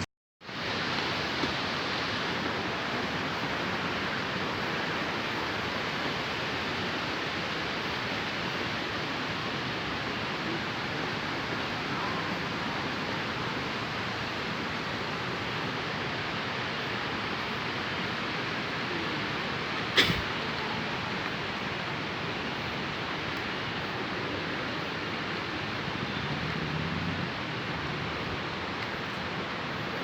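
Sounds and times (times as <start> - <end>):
rush of falling water: 0.4 - 30.0.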